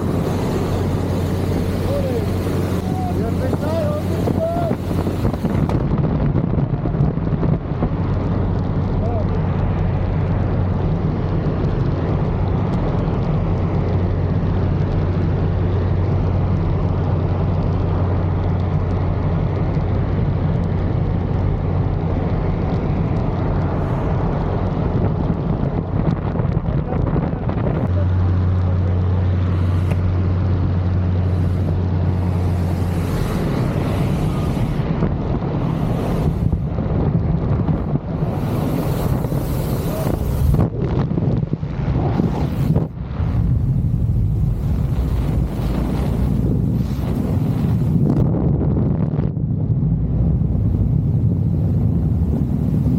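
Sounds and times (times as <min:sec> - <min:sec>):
propeller drone: 0:00.0 - 0:52.9
wind noise: 0:00.0 - 0:52.9.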